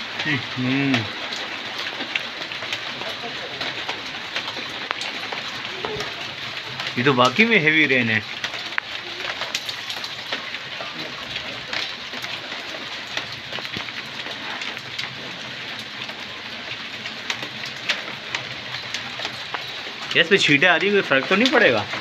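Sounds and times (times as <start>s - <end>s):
heavy rain pouring: 0.0s - 22.0s
raindrops ticking: 0.0s - 22.0s.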